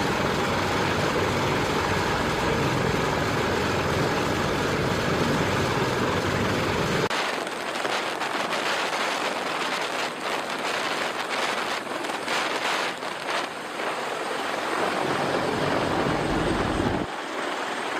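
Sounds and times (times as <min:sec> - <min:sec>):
wind buffeting microphone: 0:00.0 - 0:17.1
helicopter turbines and rotors: 0:00.0 - 0:17.9.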